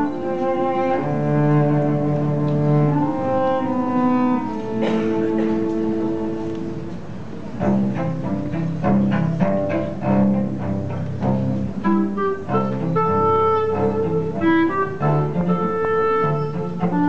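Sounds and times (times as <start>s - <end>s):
low bowed string instrument: 0.0s - 17.0s.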